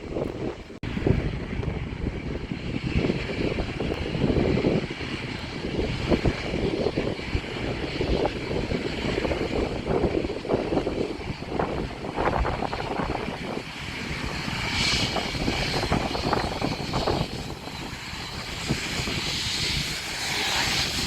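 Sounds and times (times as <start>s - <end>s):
airplane engines roaring: 0.0s - 21.0s.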